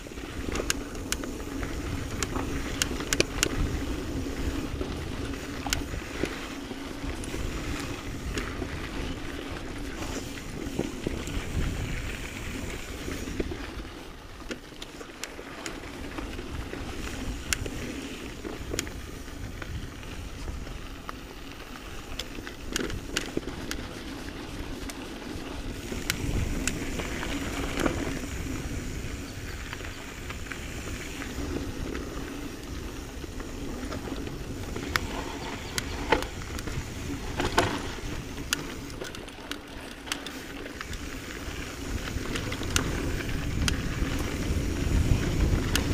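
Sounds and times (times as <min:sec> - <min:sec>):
bike clicking and rattling over rocks: 0:00.0 - 0:45.9
bike tyres rumbling on dirt: 0:00.0 - 0:45.9.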